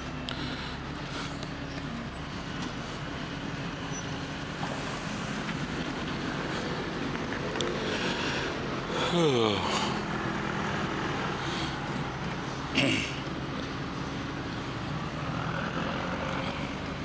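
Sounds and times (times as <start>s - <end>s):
car engine humming: 0.0s - 17.0s
tyres on road: 0.0s - 17.0s.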